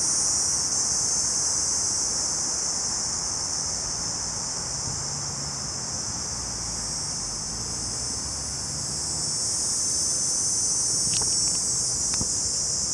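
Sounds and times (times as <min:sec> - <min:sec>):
cicadas droning: 0:00.0 - 0:12.9.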